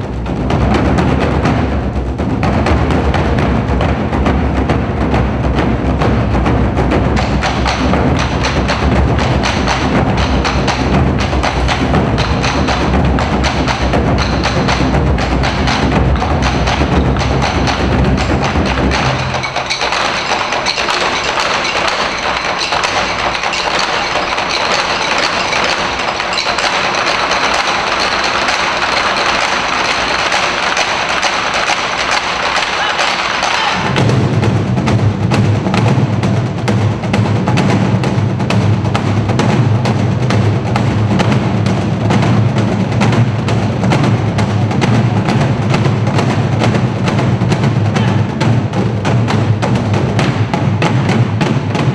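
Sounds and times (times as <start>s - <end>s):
barrel drums struck with sticks: 0.0s - 51.9s
sharp clicking drum strokes: 0.0s - 51.9s.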